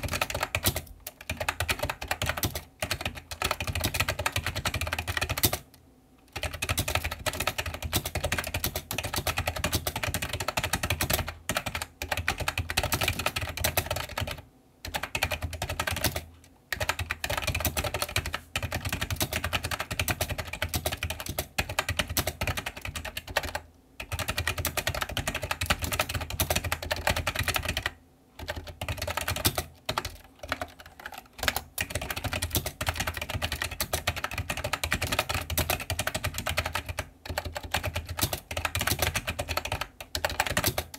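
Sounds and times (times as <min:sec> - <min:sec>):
fast keyboard typing clacks: 0:00.0 - 0:05.7, 0:06.3 - 0:40.9.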